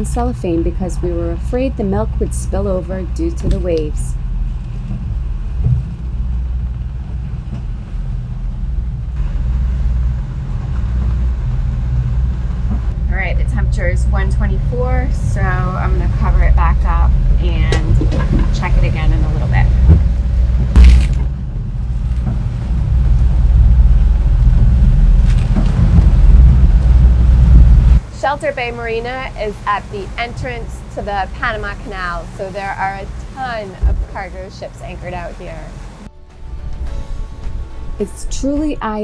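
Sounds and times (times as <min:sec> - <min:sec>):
boat diesel engine drone: 0:00.0 - 0:39.0.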